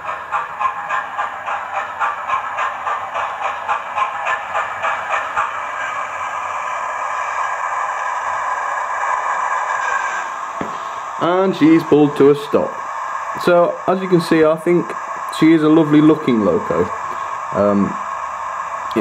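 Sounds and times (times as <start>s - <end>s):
steady steam hiss: 0.0s - 19.0s
steam locomotive chuffs: 0.0s - 19.0s.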